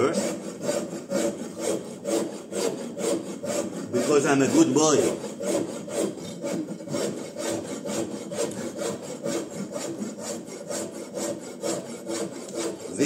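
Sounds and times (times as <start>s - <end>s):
wood rasp scraping a board: 0.0s - 13.0s.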